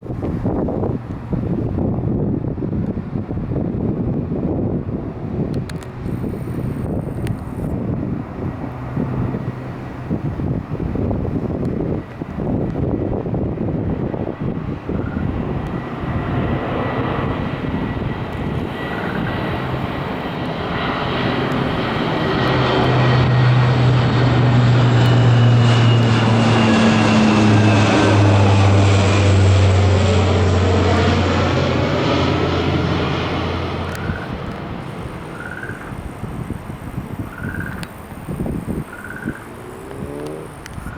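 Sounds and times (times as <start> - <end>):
military aircraft passing overhead: 0.0 - 40.9.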